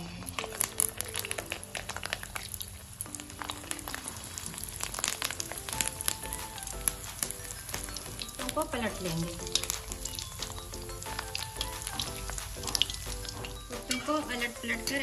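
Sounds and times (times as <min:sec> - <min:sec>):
balls frying in hot oil: 0:00.0 - 0:15.0
soft background music: 0:00.0 - 0:15.0.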